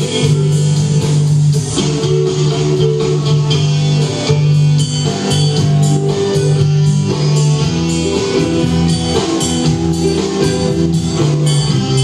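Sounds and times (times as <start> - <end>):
electric guitar: 0.0 - 12.0
live band playing: 0.0 - 12.0.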